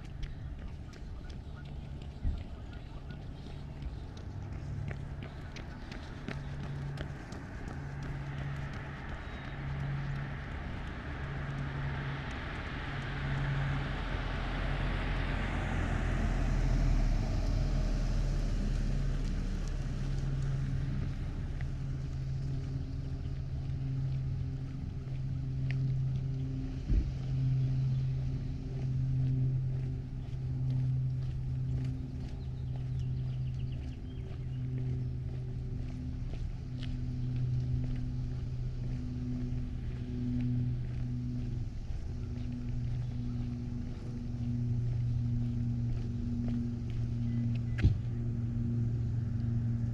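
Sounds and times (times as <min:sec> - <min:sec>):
car passing road noise: 0:00.0 - 0:49.9
low pulsing hum: 0:00.0 - 0:49.9.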